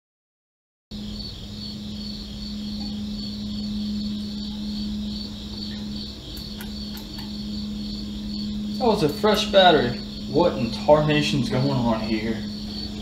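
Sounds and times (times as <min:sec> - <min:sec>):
crickets trilling: 0:00.9 - 0:13.0
low hum: 0:00.9 - 0:13.0.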